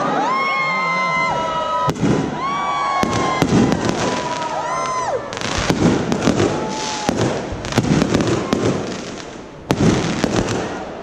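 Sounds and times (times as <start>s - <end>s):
firework bangs: 1.8s - 11.0s
firework crackling: 1.9s - 11.0s
firework whistling: 1.9s - 11.0s.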